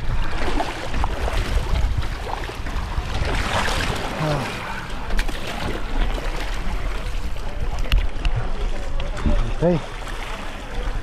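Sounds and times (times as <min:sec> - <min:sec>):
water sloshing around legs: 0:00.0 - 0:11.0.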